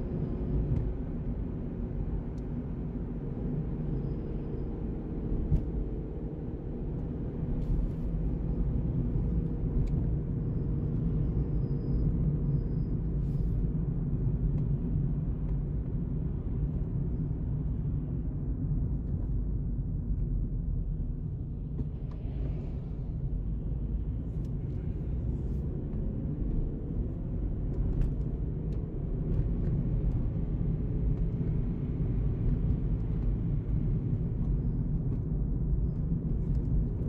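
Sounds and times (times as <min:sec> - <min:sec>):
car interior road rumble: 0:00.0 - 0:37.0.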